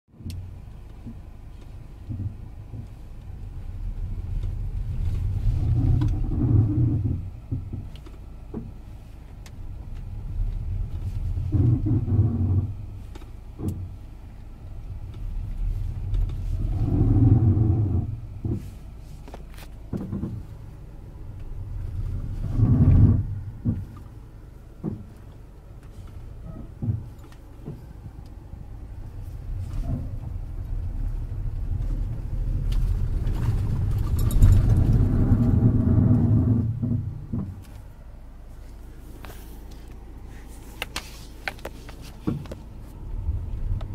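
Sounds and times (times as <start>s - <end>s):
car running: 0.1s - 43.9s
low brake groan: 1.8s - 7.8s, 8.9s - 43.9s.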